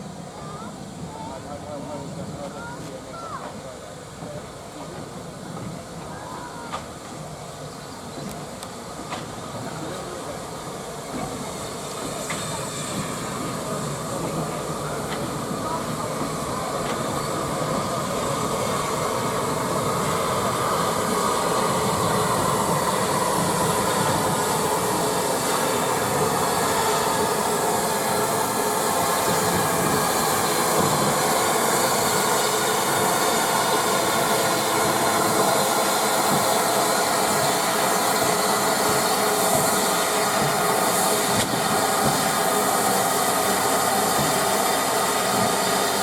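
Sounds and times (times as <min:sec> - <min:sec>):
steam hiss: 0:00.0 - 0:46.0
train wheels on rails: 0:00.0 - 0:46.0.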